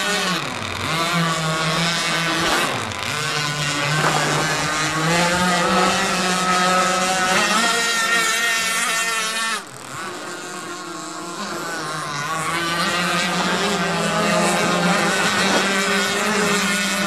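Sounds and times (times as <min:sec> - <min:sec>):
rc boat engines buzzing whine: 0:00.0 - 0:17.0.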